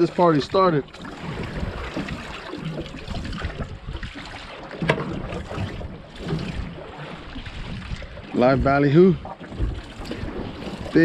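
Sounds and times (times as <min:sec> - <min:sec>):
sea water splashing on hull: 0:00.0 - 0:11.0
wind on microphone: 0:00.4 - 0:11.0.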